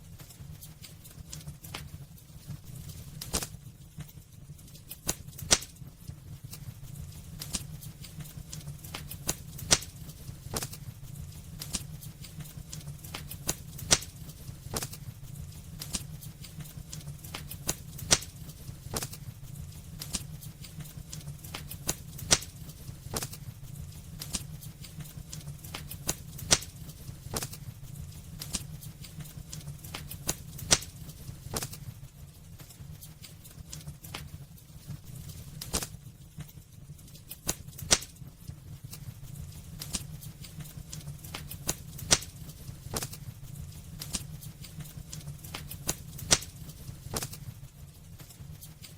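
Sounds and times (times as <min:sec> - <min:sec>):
low rumble of flames: 0:00.0 - 0:48.9
wood fire crackling and popping: 0:00.0 - 0:48.9.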